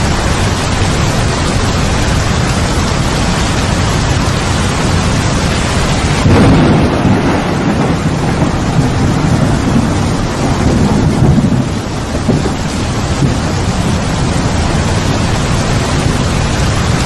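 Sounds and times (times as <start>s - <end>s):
heavy rain pouring: 0.0s - 17.0s
thunder rumbling: 0.0s - 17.0s.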